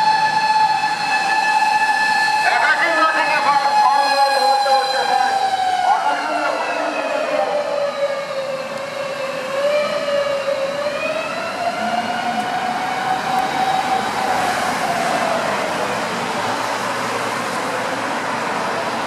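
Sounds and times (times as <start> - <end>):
siren steady high pitch: 0.0 - 15.7
traffic noise: 0.0 - 19.0.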